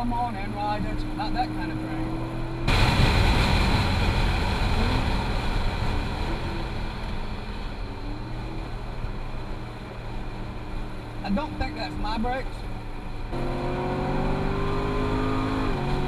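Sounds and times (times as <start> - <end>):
car engine running hard: 0.0 - 16.0
road and wind noise: 0.0 - 16.0.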